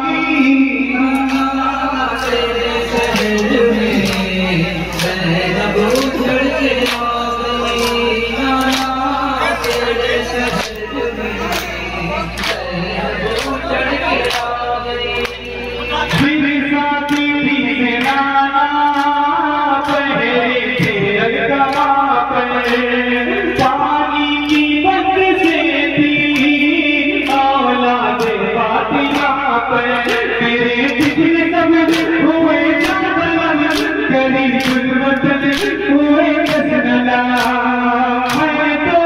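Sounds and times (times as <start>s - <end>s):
man singing a lament: 0.0s - 39.0s.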